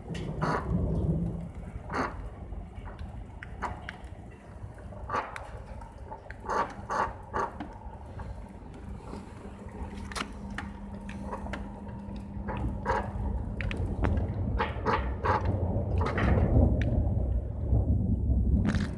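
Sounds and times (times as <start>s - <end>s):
sliding gate motor humming: 0.0s - 16.8s.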